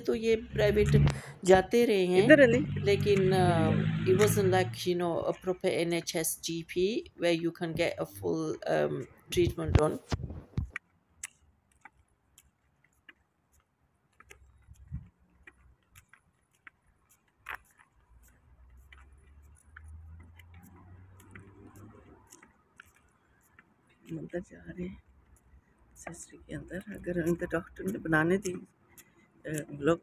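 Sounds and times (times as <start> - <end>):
footsteps on tarmac: 0.0 - 30.0.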